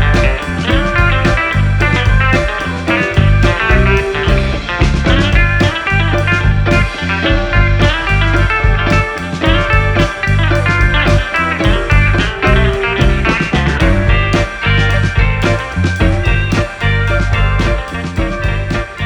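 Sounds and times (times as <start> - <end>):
guitar-led background music: 0.0 - 19.0.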